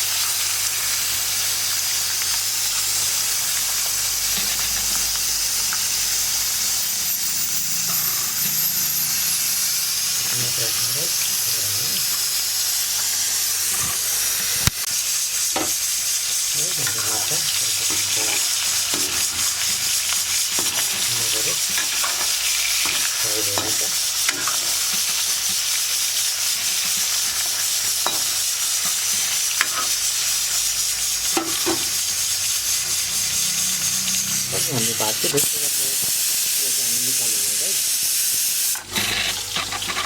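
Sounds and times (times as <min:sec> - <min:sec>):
fish frying in hot oil: 0:00.0 - 0:40.0.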